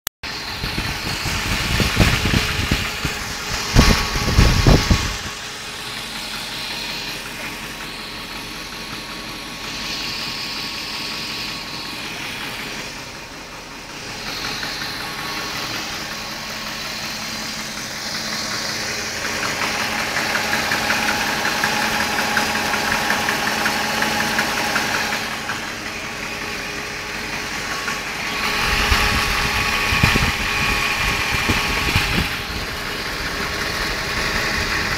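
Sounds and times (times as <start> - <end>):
car engine idling: 0.2 - 34.9
engine knocking and ticking: 0.2 - 34.9.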